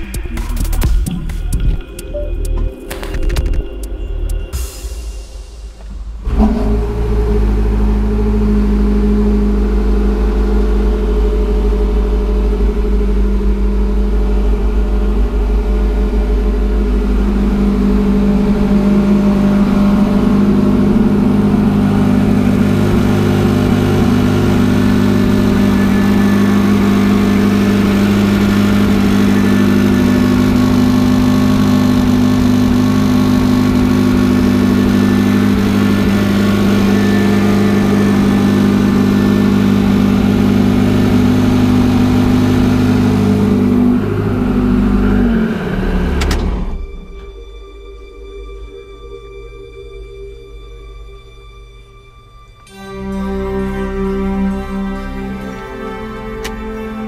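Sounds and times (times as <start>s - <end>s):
car engine idling: 0.0s - 52.2s, 53.0s - 57.0s.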